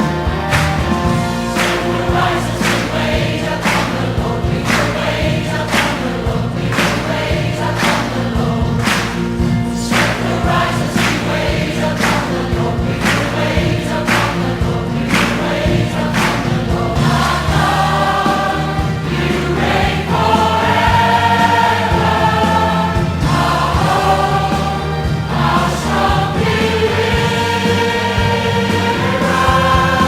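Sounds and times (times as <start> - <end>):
choir singing worship song: 0.0 - 30.0
instrumental backing with beat: 0.0 - 30.0.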